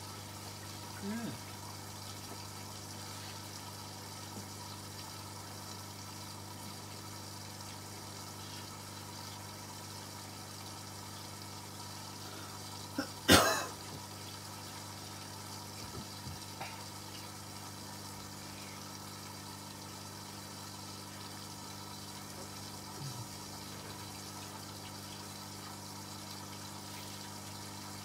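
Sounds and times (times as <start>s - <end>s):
water running into washing machine: 0.0s - 28.0s.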